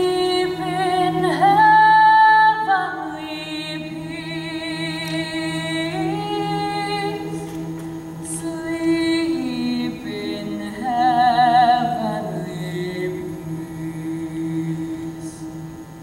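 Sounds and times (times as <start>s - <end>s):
woman singing with vibrato: 0.0s - 15.7s
choir holding a chord: 0.0s - 15.8s.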